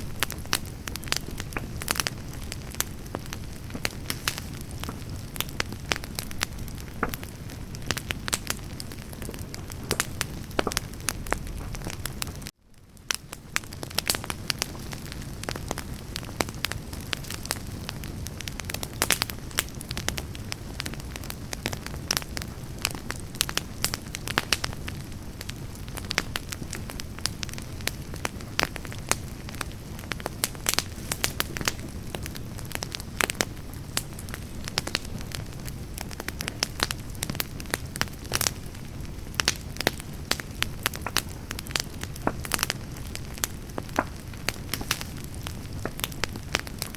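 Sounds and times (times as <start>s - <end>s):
campfire crackling and popping: 0.0s - 46.9s
low rumble of flames: 0.0s - 46.9s.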